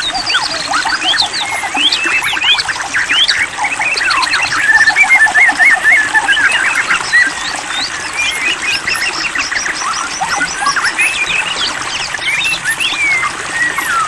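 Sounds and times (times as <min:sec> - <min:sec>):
songbird whistling and chirping: 0:00.0 - 0:14.0.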